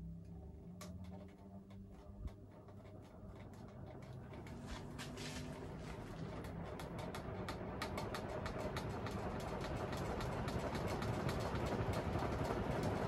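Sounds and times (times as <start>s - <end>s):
ceiling fan whoosh and hum: 0.0s - 13.0s.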